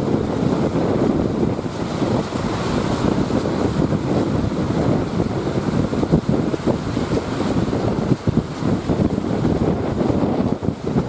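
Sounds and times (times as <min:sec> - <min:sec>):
surf breaking: 0:00.0 - 0:11.0
wind buffeting microphone: 0:00.0 - 0:11.0.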